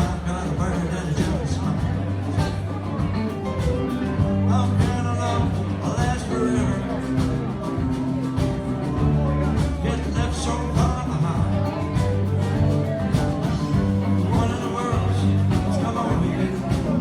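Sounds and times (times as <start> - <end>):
live band playing country-rock: 0.0 - 17.0
sustained bass notes: 0.0 - 17.0.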